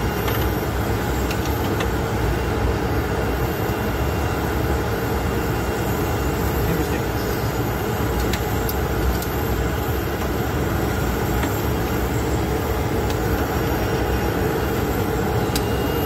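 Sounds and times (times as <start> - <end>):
steady cockpit drone: 0.0 - 16.0.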